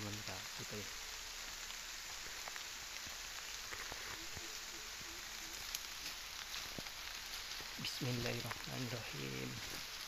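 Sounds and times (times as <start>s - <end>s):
rain falling on leaves: 0.0s - 10.0s.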